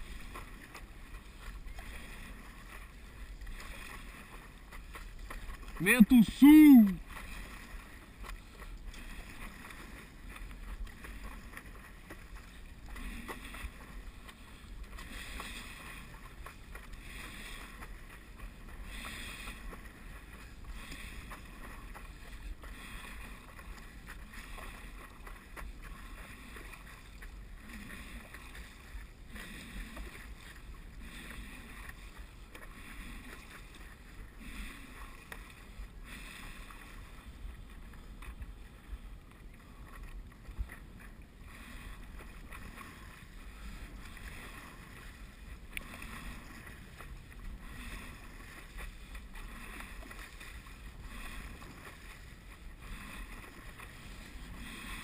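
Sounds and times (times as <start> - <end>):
paddle splashing through water: 0.0 - 55.0.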